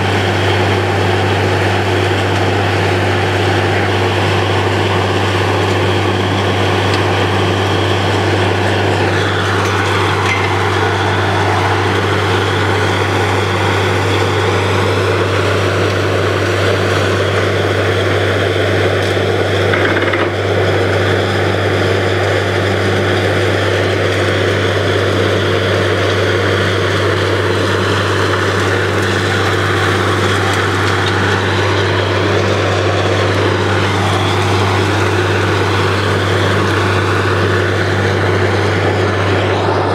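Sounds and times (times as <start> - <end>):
drilling rig droning: 0.0 - 39.9.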